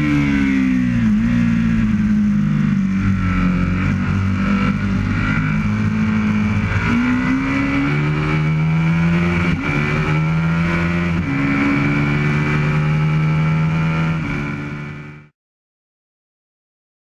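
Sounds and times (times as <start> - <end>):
motorcycle engine at full throttle: 0.0 - 15.3.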